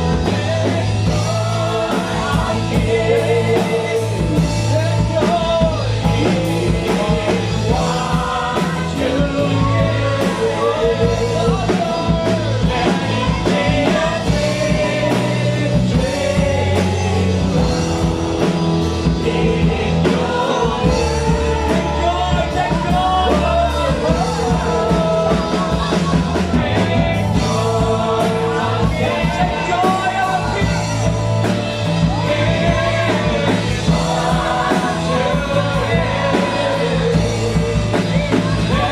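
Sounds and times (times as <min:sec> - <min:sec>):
band with bass and drums: 0:00.0 - 0:38.9
person singing: 0:00.0 - 0:38.9.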